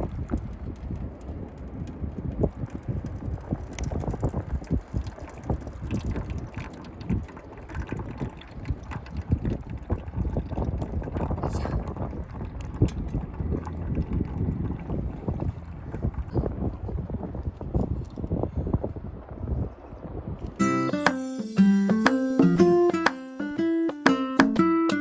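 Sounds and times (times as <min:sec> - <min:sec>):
wind buffeting microphone: 0:00.0 - 0:20.6.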